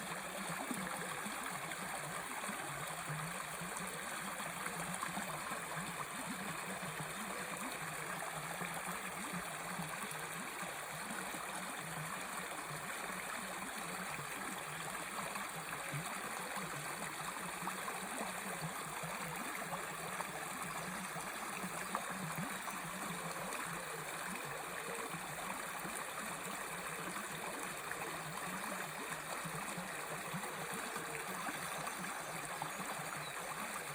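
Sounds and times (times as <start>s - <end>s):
small river flowing: 0.0s - 33.9s.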